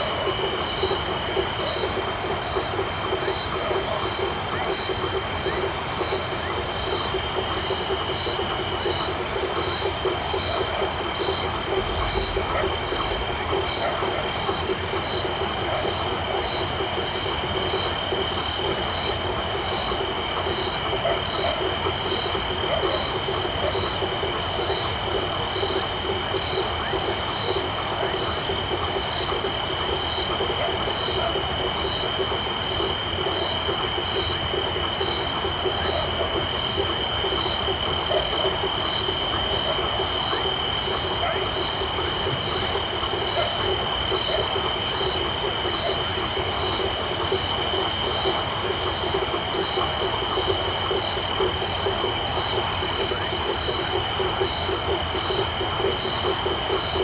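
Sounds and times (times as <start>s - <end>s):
frogs calling: 0.0s - 57.0s
insect trill: 0.0s - 57.0s.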